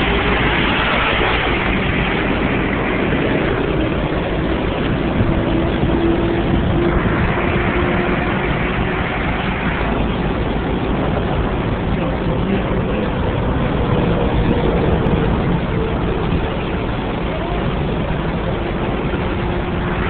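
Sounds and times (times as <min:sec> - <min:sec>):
heavy engines running: 0:00.0 - 0:20.0
highway traffic passing: 0:00.0 - 0:20.0.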